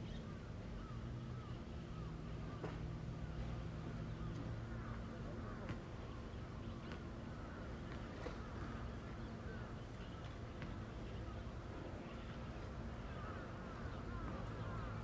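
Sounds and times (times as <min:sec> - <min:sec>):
low steady machine hum: 0:00.0 - 0:15.0.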